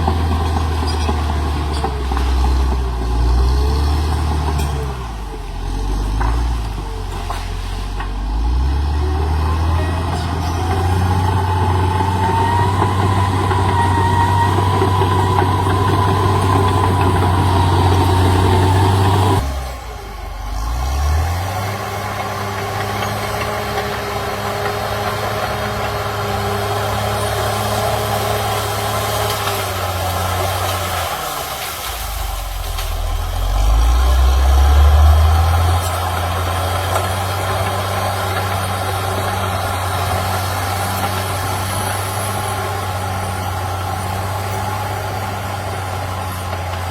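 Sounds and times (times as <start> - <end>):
bulldozer diesel engine: 0.0 - 46.9.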